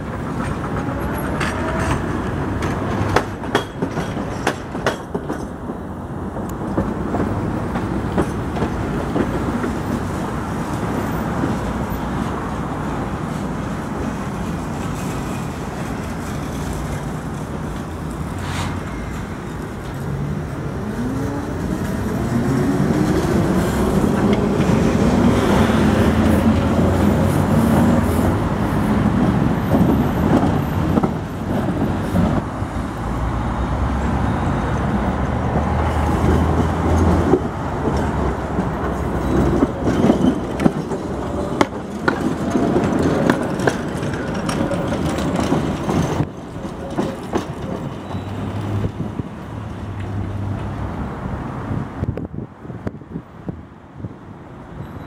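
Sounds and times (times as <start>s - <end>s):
tram wheels clattering over rails: 0.0s - 52.1s
street traffic: 0.0s - 55.0s.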